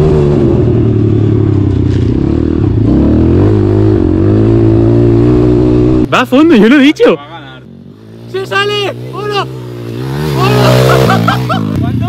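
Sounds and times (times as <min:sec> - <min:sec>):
pit bike engine at full throttle: 0:00.0 - 0:12.0.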